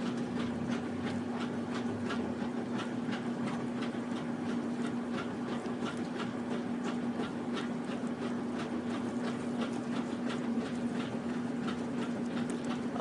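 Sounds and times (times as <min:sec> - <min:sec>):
dog chewing with wet smacking: 0:00.0 - 0:13.0
steady low hum: 0:00.0 - 0:13.0.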